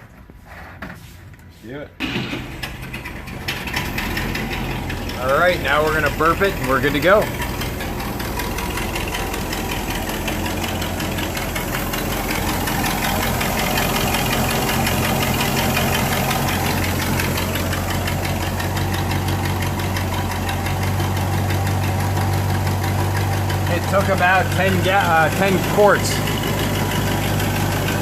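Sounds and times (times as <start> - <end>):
car engine idling: 2.0 - 28.0.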